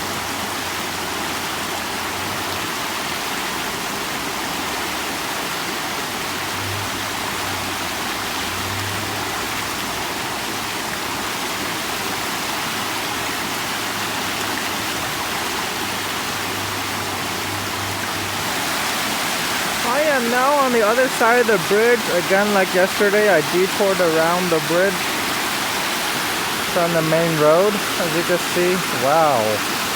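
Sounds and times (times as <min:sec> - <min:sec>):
flooded creek rushing: 0:00.0 - 0:29.9.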